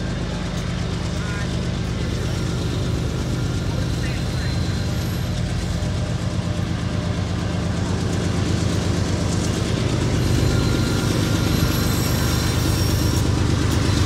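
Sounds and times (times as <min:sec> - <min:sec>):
diesel locomotive engines rumbling: 0:00.0 - 0:14.0.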